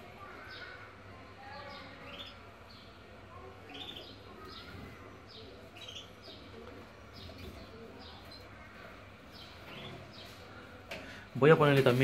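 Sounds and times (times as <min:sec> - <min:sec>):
finches chirping: 0:00.0 - 0:11.3.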